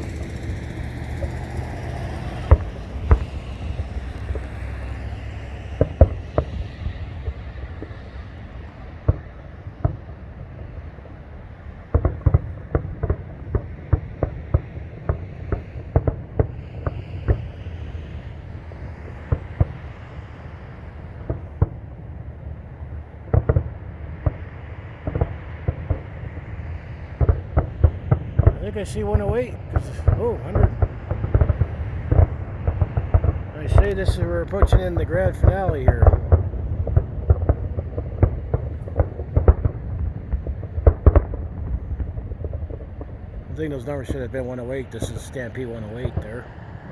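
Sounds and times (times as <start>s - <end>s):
distant fireworks bangs: 0.0s - 46.9s
steady low rumble: 0.0s - 46.9s.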